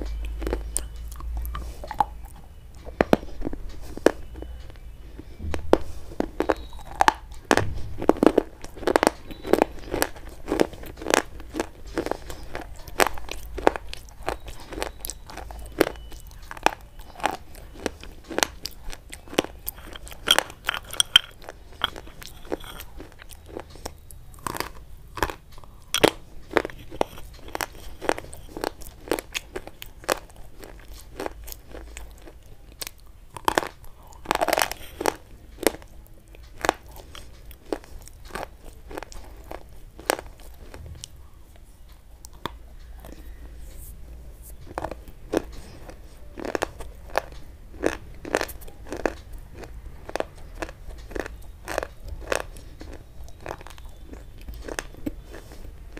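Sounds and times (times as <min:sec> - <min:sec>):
chalk crunching and chewing: 0:00.0 - 0:55.9.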